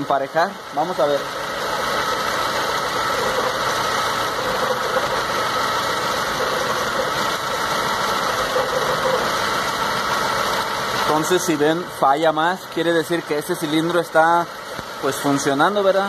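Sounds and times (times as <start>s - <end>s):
car engine idling roughly: 0.0s - 16.0s.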